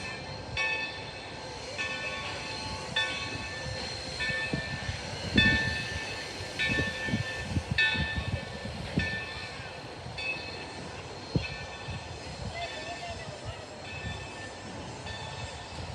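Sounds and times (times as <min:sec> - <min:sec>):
train rumbling: 0:00.0 - 0:15.9.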